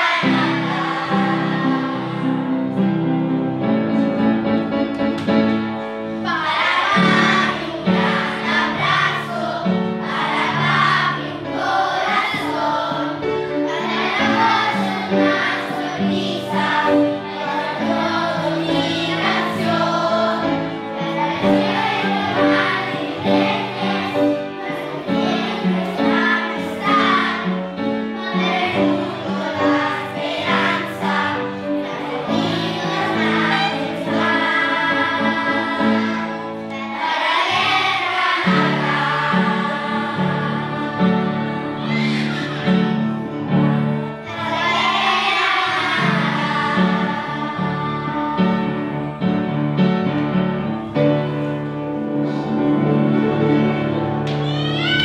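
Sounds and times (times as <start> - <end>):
children's choir singing: 0.0 - 55.0.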